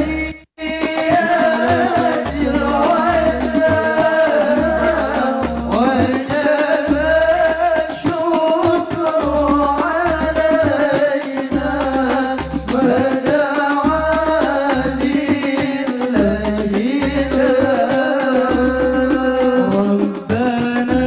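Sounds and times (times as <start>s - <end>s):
low repeating drum beat: 0.0s - 21.0s.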